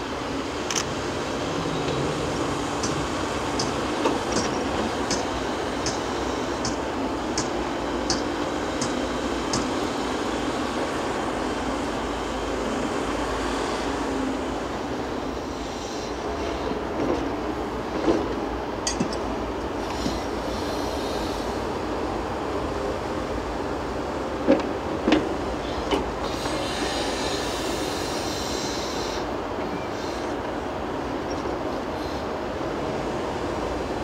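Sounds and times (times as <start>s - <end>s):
excavator engine and hydraulics: 0.0s - 34.0s.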